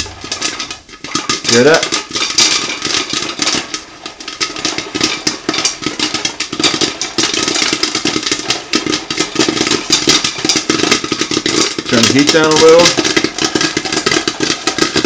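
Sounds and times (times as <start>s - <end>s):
popcorn popping: 0.0s - 15.0s
stirring arm rattling: 0.0s - 15.0s.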